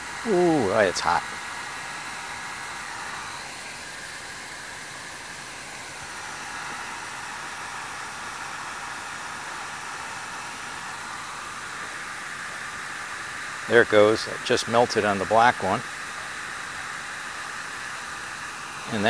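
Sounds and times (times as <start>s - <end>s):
heat gun hiss: 0.0s - 19.0s.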